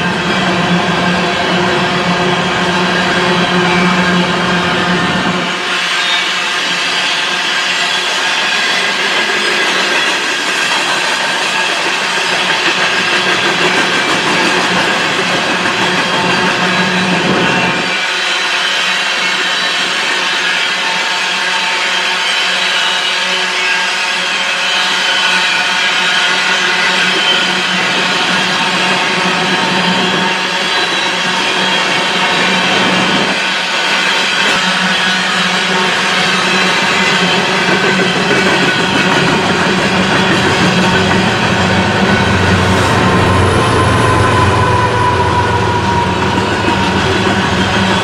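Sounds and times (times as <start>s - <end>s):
freight train wheels on rails: 0.0s - 48.0s.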